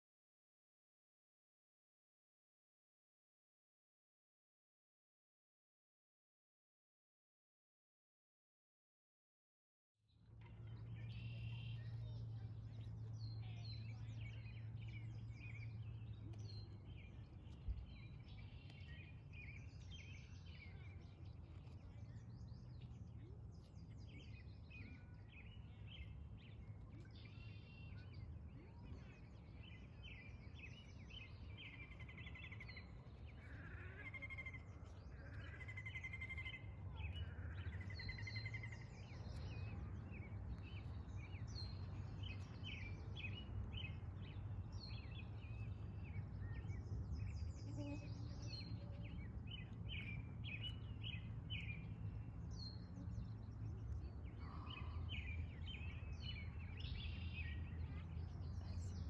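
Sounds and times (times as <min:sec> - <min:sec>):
songbirds chirping and trilling: 0:10.1 - 0:59.0.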